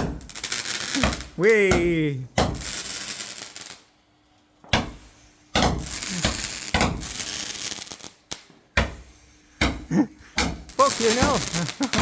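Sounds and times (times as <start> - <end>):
firework bangs: 0.0 - 3.8, 4.8 - 12.0
hissing crackling firework trail: 0.0 - 4.0, 4.8 - 12.0.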